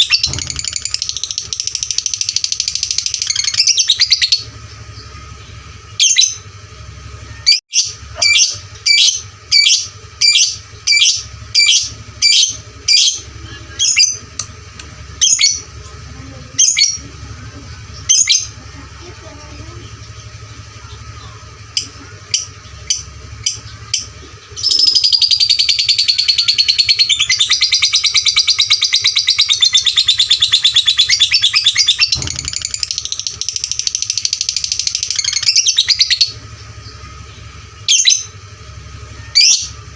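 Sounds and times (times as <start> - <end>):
lovebird chirping and trilling: 0.0 - 6.5, 7.1 - 39.9.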